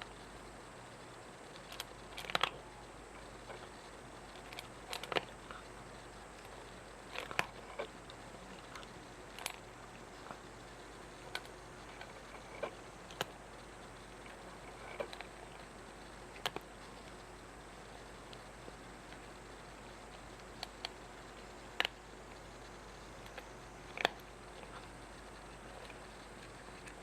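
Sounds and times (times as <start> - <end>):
cat chewing crunches: 1.4 - 27.0.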